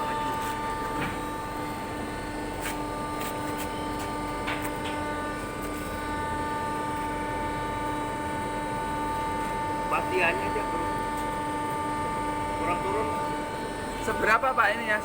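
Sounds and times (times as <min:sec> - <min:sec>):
forming machine humming and whining: 0:00.0 - 0:15.0.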